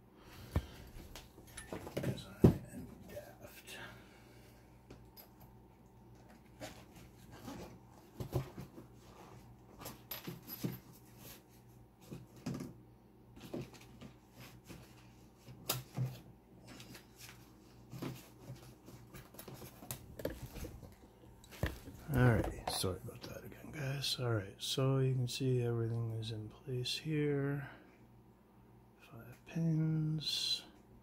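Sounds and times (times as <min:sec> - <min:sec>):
steady low hum: 0:00.0 - 0:12.1, 0:16.4 - 0:31.0.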